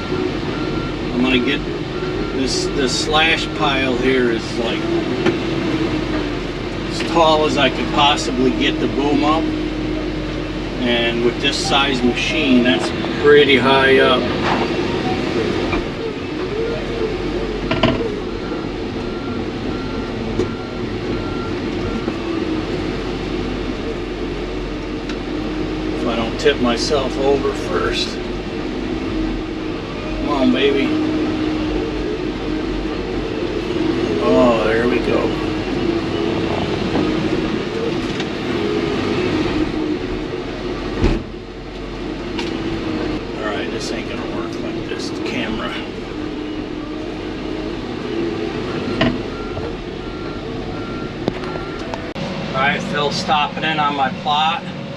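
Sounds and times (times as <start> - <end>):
excavator diesel engine under load: 0.0 - 54.9.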